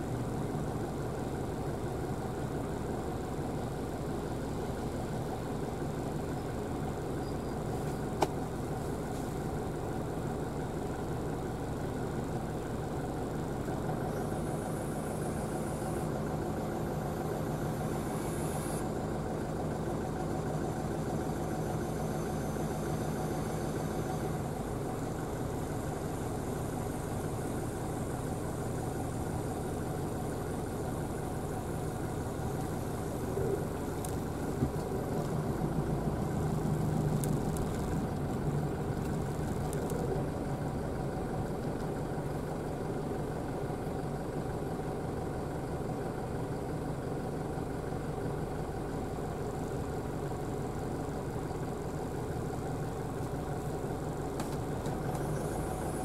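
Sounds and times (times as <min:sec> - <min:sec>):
car engine hum: 0:00.0 - 0:56.0
road noise: 0:00.0 - 0:56.0.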